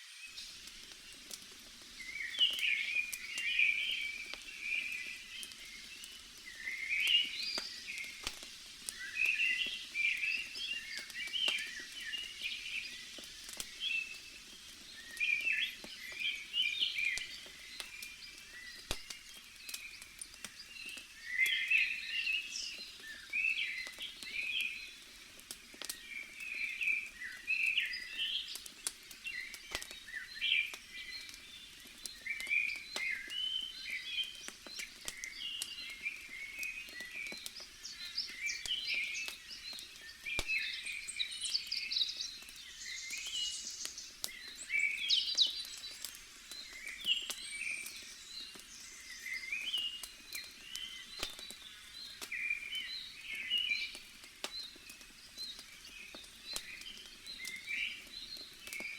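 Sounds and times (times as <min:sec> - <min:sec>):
campfire crackling: 0:00.0 - 0:58.9
small birds chirping: 0:00.0 - 0:58.9.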